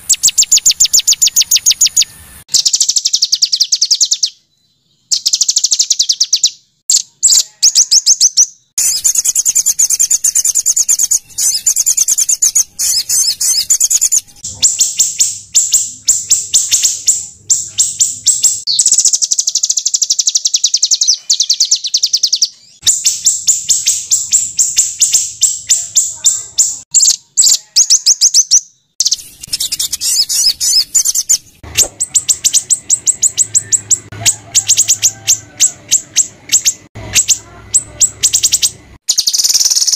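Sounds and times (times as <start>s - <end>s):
songbirds harsh chip notes: 0.0s - 39.9s.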